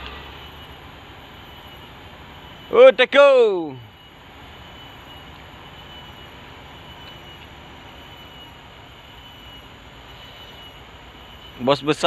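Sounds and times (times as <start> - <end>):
faint high-pitched tone: 0.0 - 12.0.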